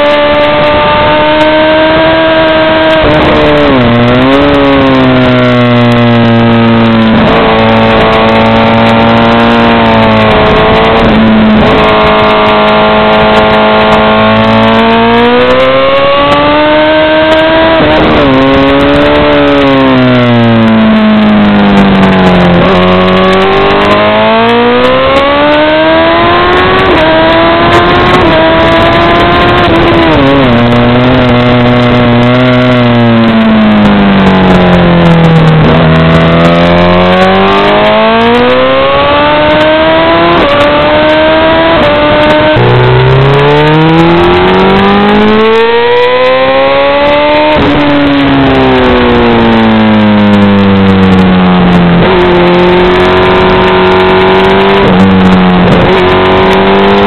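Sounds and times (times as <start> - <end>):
motorcycle engine at racing revs: 0.0 - 57.0.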